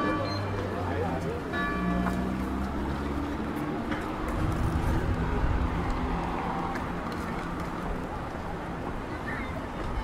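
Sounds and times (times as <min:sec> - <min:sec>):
vehicle engine rumbling: 0:00.0 - 0:09.9
steady urban hum: 0:00.0 - 0:10.0.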